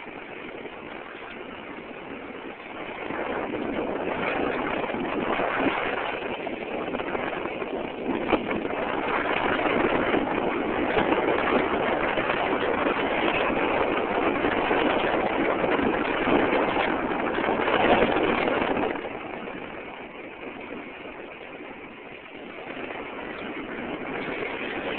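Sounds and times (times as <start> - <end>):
rushing noise of bicycle ride: 0.0 - 24.9.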